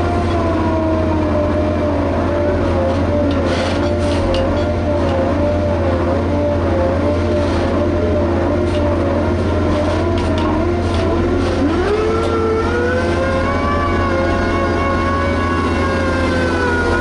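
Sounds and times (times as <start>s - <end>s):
diesel engine revving: 0.0s - 17.0s.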